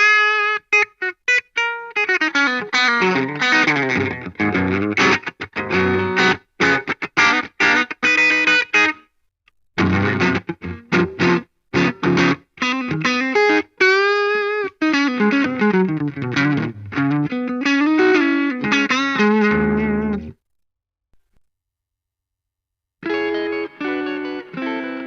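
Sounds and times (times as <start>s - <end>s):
electric guitar playing: 0.0s - 9.0s, 9.8s - 20.4s, 23.0s - 25.0s.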